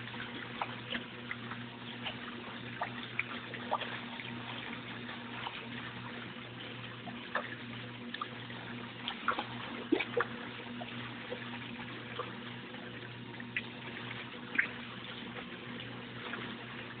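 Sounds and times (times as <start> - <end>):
drips: 0.0 - 17.0
low hum: 0.0 - 17.0
water trickling and splashing: 0.0 - 17.0.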